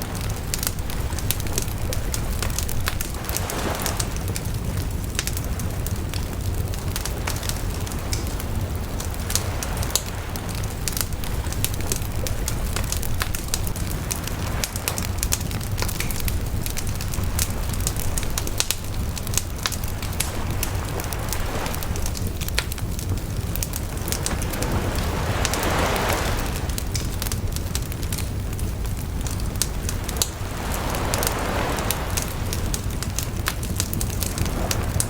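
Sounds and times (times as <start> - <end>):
fire popping and snapping: 0.0 - 35.0
wood bonfire crackling: 0.0 - 35.0.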